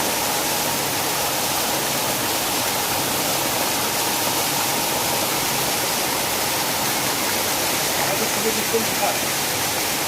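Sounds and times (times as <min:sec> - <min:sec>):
water jetting and falling: 0:00.0 - 0:10.0.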